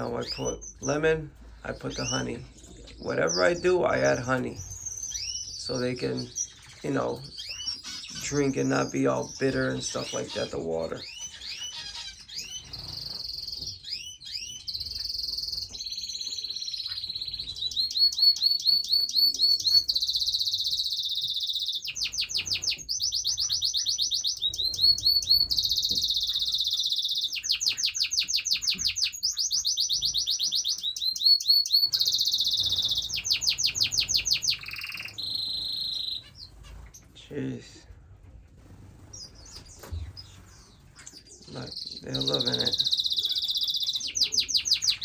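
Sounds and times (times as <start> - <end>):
finches chirping and trilling: 0.0 - 45.0.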